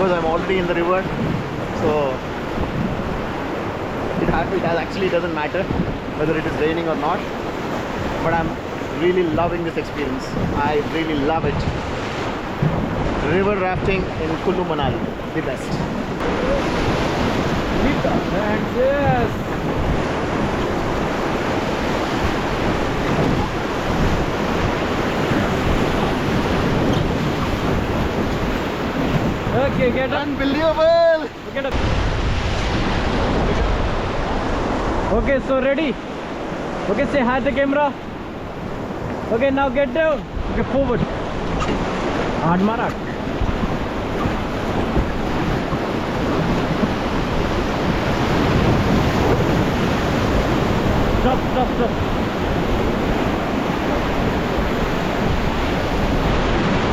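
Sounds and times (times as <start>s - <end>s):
paddling: 0.0s - 35.2s, 36.0s - 56.9s
rushing river whitewater: 0.0s - 56.9s
wind on microphone: 0.0s - 56.9s.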